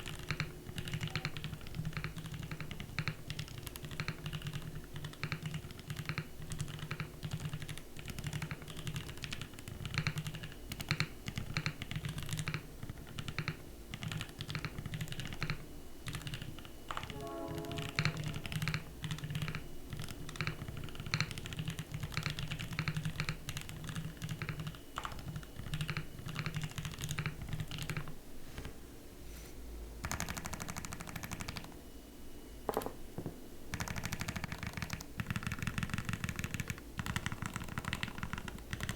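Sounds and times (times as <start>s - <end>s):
mechanical keyboard typing: 0.0s - 17.2s, 17.8s - 28.1s, 30.0s - 31.7s, 33.7s - 38.9s.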